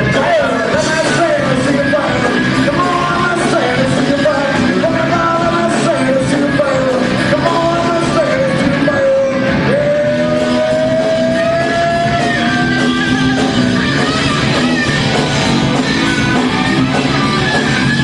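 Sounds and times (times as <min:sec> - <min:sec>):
rock music with singing: 0:00.0 - 0:18.0.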